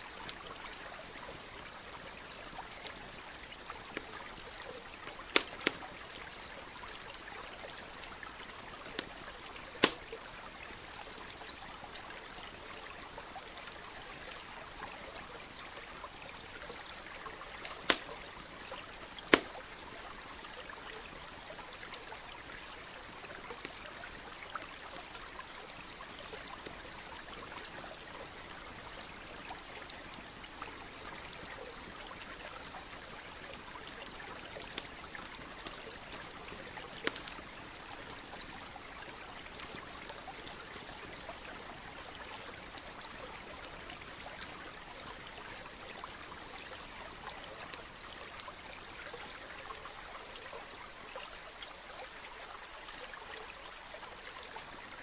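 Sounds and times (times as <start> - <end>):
campfire crackling and popping: 0.0 - 51.7, 54.0 - 55.0.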